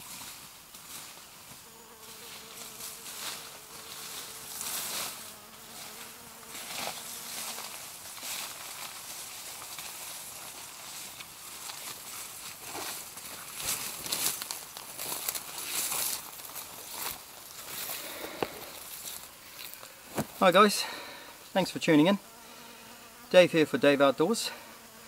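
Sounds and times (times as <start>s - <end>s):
grass rustling underfoot: 0.0s - 22.0s
insect buzzing: 0.0s - 25.0s.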